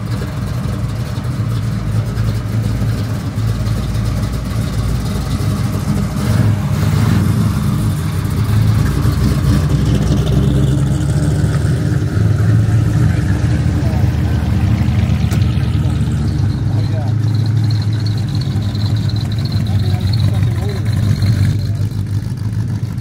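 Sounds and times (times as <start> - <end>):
car engine running at low revs: 0.0 - 23.0.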